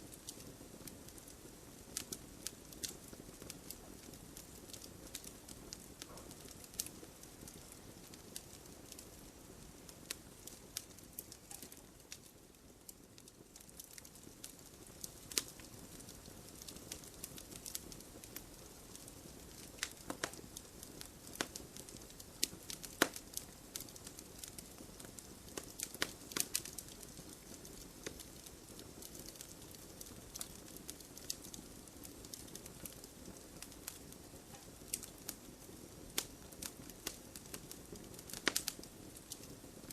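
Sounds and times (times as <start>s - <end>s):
campfire crackling: 0.0s - 39.9s
hiss of burning: 0.0s - 39.9s.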